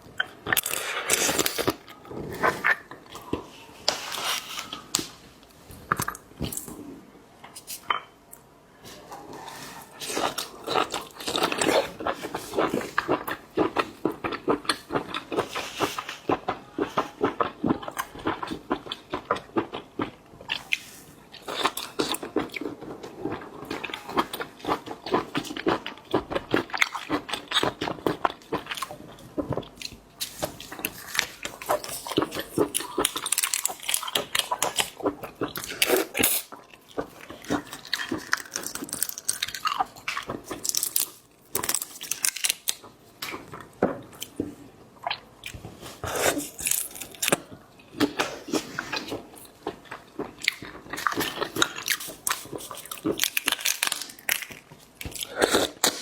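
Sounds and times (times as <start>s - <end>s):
person chewing crunchy food: 0.2s - 5.1s, 9.1s - 56.0s.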